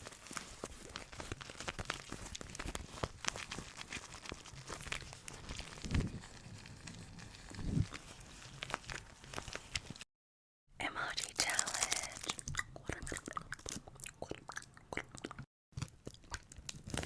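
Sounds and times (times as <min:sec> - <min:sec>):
asmr crinkling and crackling: 0:00.0 - 0:10.1, 0:10.9 - 0:17.0.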